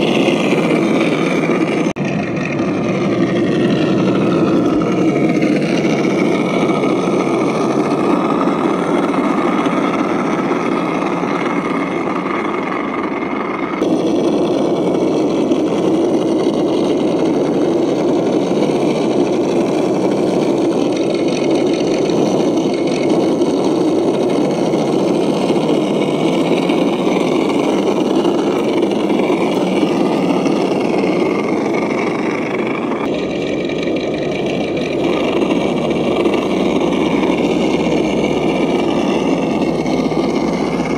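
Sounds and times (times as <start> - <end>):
toy car electric motor running: 0.0 - 40.9.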